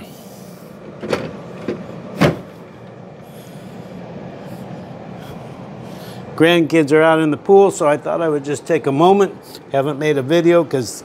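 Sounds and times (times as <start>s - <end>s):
dehumidifier fan noise: 0.0s - 11.0s.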